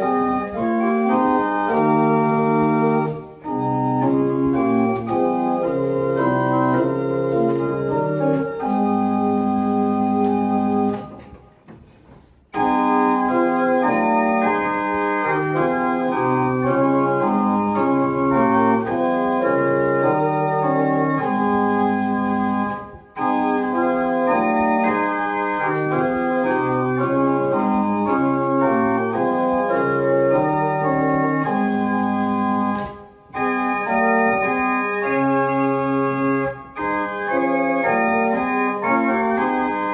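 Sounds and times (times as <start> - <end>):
chamber organ chords: 0.0 - 11.4, 12.5 - 39.9.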